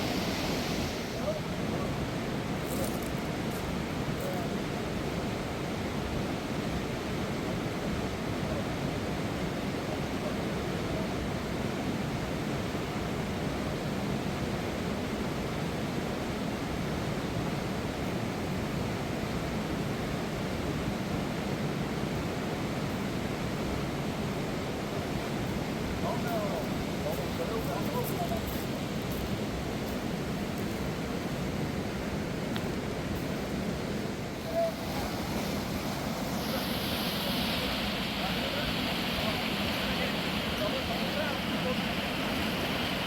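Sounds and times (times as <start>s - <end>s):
river rushing over rocks: 0.0s - 43.0s.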